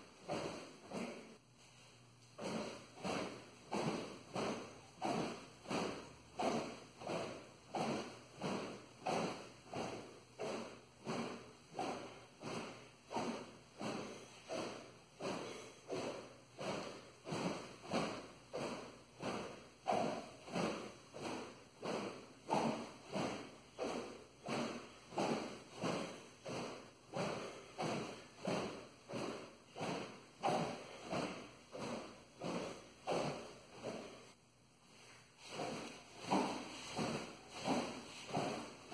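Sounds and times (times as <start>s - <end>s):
sword swinging whoosh: 2.4s - 34.1s, 35.4s - 38.9s.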